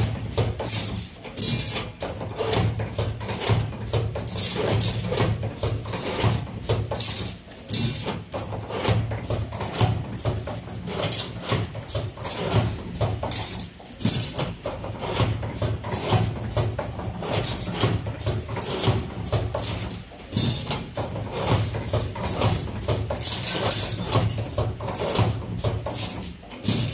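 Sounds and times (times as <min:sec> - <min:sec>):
machine clicks and clatter: 0:00.0 - 0:26.9.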